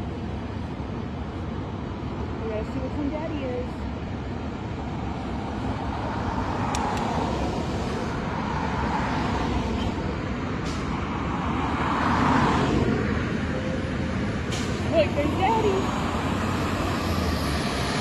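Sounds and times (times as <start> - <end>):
trucks rumbling: 0.0 - 18.0.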